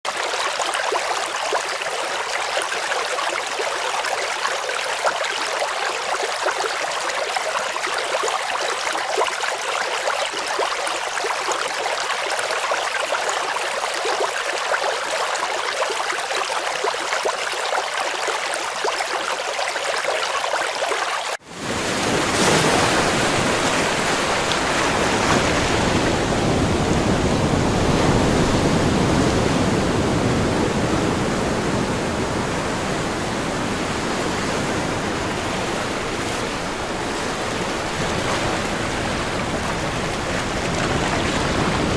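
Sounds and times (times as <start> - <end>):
water trickling and splashing: 0.0 - 29.2, 33.4 - 41.9
deep rush of water: 0.0 - 41.9.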